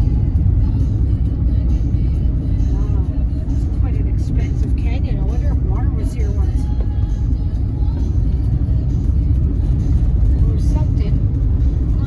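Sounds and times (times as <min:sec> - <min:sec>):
car engine rumble: 0:00.0 - 0:12.0
music playing: 0:00.0 - 0:12.0
tyres on road: 0:00.0 - 0:12.0.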